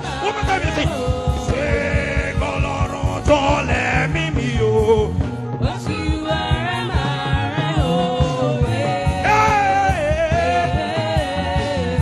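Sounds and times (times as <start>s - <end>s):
gospel band with drums and bass: 0.0s - 12.0s.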